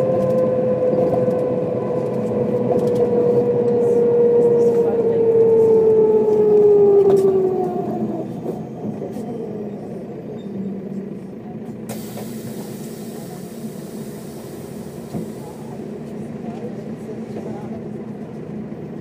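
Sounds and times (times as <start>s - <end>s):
bus engine whine and running: 0.0s - 19.0s.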